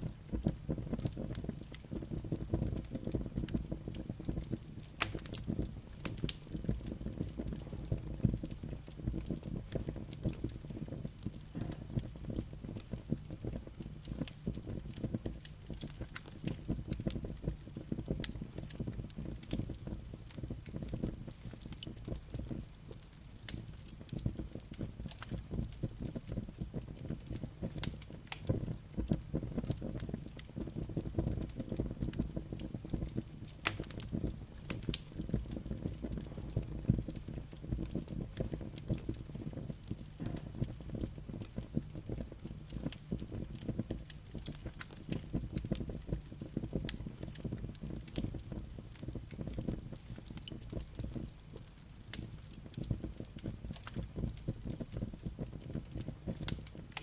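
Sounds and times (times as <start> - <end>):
burning logs crackling and popping: 0.0 - 57.0
fire flames rumbling: 0.0 - 57.0.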